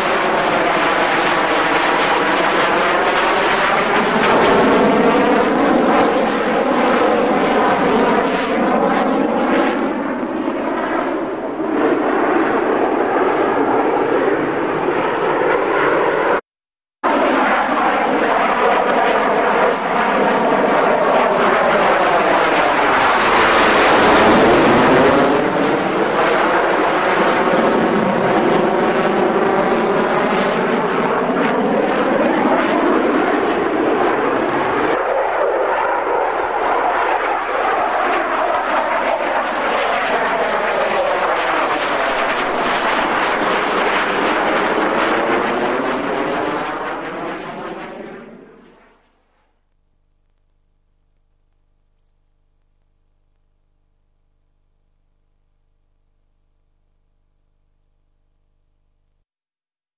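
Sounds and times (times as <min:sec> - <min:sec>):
jet engine roaring: 0:00.0 - 0:16.4, 0:17.0 - 0:49.5.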